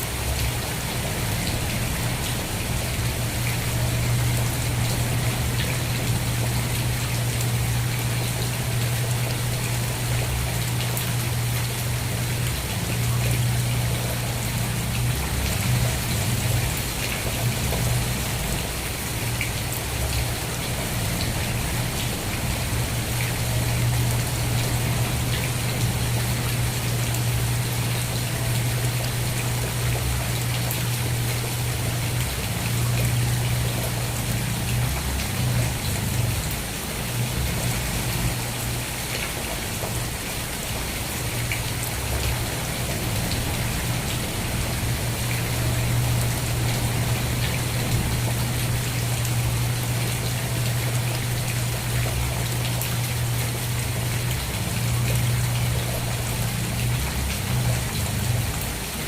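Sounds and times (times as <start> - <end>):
continuous low rumble: 0.0 - 59.0
steady rain: 0.0 - 59.0.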